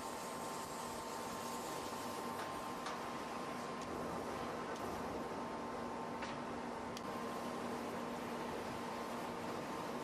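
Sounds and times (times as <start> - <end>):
constant machine hum: 0.0 - 10.0.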